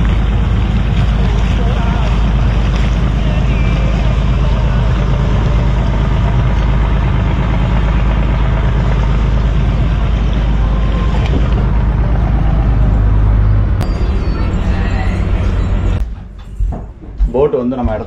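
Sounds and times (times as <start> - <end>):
water noise: 0.0 - 16.0
boat engine droning: 0.0 - 16.3.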